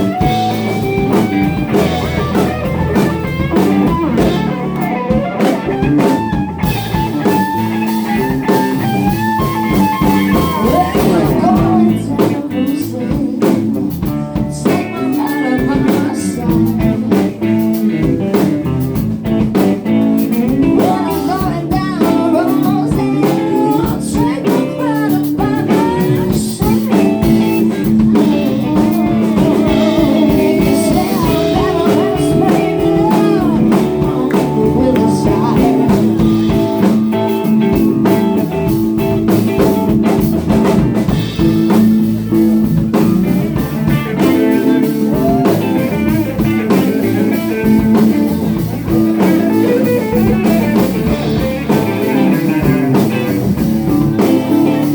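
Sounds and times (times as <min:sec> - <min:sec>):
electric guitar bending notes: 0:00.0 - 0:54.9
live blues band: 0:00.0 - 0:54.9.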